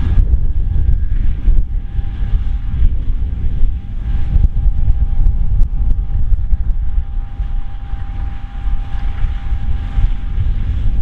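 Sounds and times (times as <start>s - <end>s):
combine harvester rumbling: 0.0s - 11.0s
steady machine whine: 0.0s - 11.0s
wind buffeting microphone: 0.0s - 11.0s.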